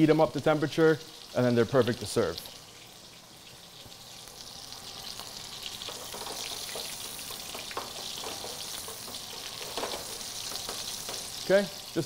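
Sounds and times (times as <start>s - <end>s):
frying oil sizzling and popping: 0.0s - 12.0s.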